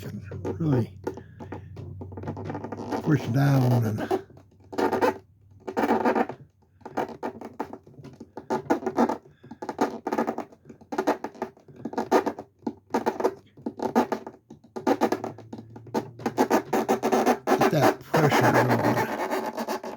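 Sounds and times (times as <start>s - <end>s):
fingertips squealing on furniture: 0.0s - 19.9s.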